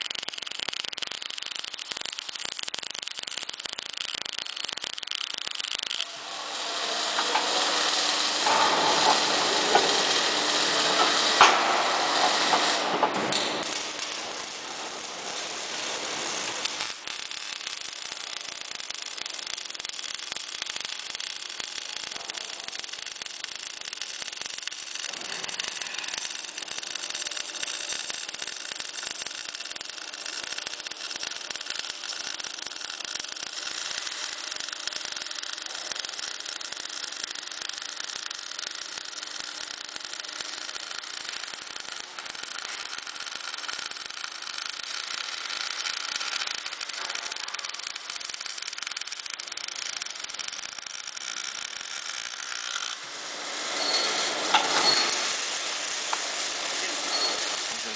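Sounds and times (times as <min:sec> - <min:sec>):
welding arc crackling and hissing: 0:00.0 - 0:57.9.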